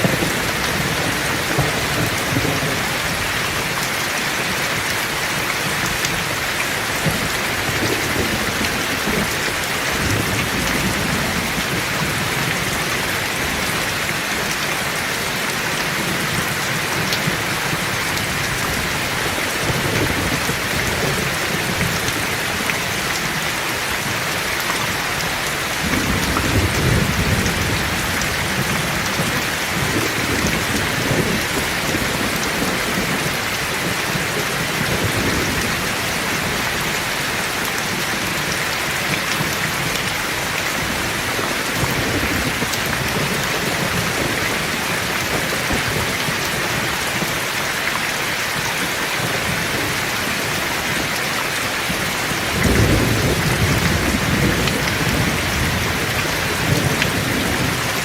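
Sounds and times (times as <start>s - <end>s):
thunder rumbling: 0.0s - 3.8s, 6.1s - 25.0s, 25.8s - 38.6s, 39.2s - 47.4s, 49.4s - 58.0s
heavy rain falling: 0.0s - 58.0s.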